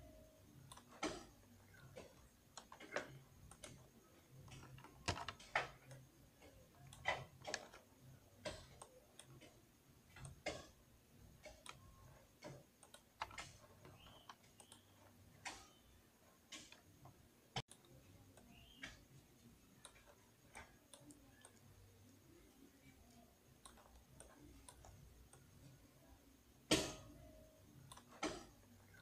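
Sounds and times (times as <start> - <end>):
mouse and keyboard clicking: 0.6 - 10.8, 11.4 - 25.8.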